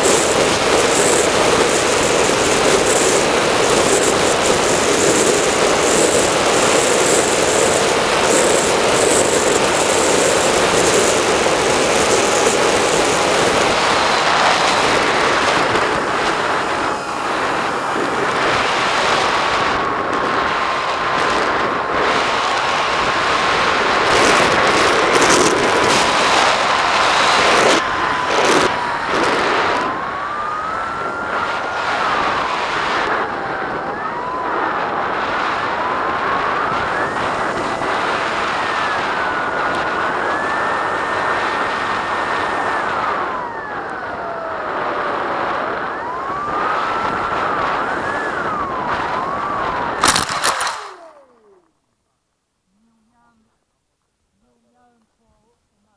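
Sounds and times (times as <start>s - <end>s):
wind rush: 0.0s - 51.7s
electric motor and propeller whining: 0.0s - 51.9s
loud burst of noise: 0.0s - 51.9s.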